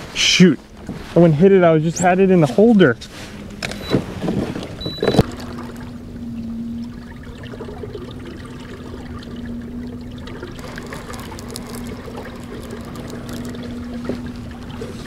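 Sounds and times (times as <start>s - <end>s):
steady low hum: 0.0s - 15.0s
water lapping against hull: 0.0s - 15.0s.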